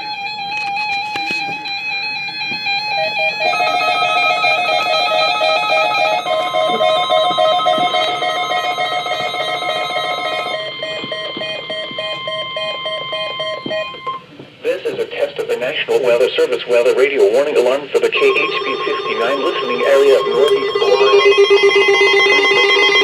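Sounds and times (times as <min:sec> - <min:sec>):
guitar music: 0:00.0 - 0:14.4, 0:18.1 - 0:23.0
steady warning alarm tone: 0:00.0 - 0:23.0.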